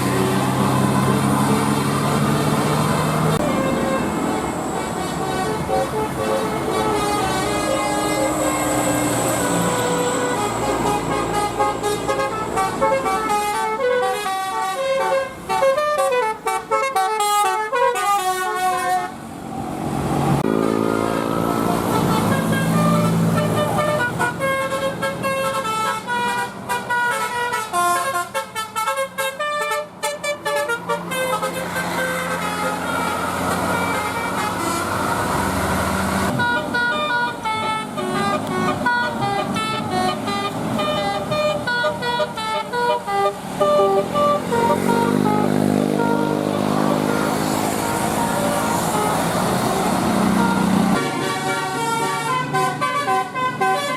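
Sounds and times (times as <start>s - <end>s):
vehicle rumble: 0.0s - 17.4s, 18.0s - 53.9s
musical bus horn melody: 0.0s - 19.3s, 20.4s - 53.9s.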